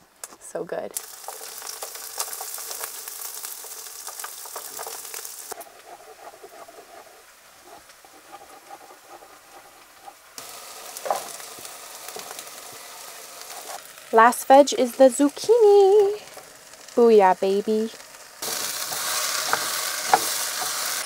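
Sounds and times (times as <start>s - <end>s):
food sizzling in oil: 0.4s - 21.0s.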